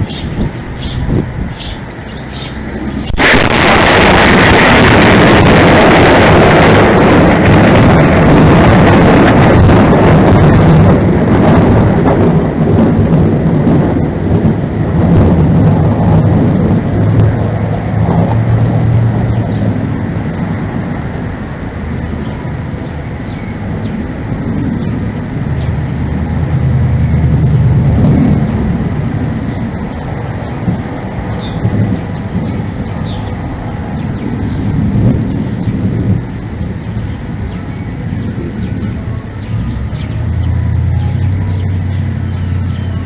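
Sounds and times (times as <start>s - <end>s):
loud rumbling roar: 0.0s - 43.0s.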